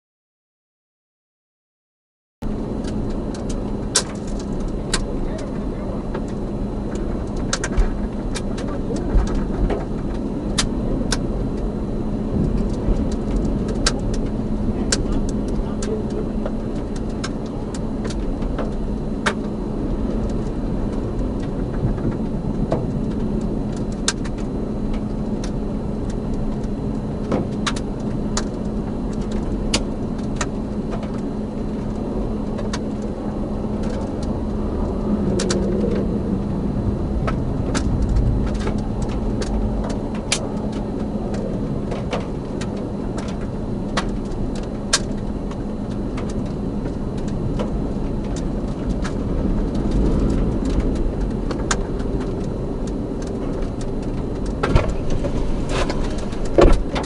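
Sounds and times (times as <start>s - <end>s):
vehicle running: 2.4s - 57.0s
wind rumble: 2.4s - 57.0s.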